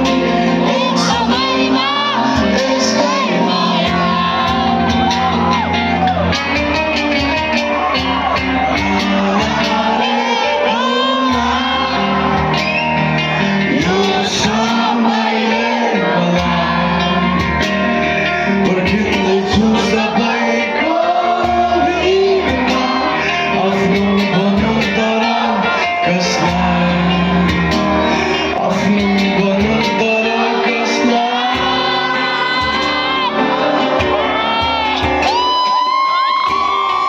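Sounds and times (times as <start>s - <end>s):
live band through loud pa: 0.0s - 37.0s
person singing: 0.0s - 37.0s.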